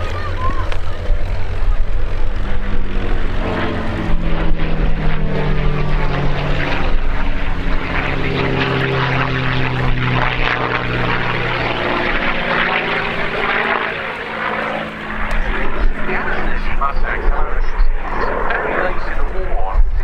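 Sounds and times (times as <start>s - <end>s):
aircraft engine running loud: 0.0s - 20.0s.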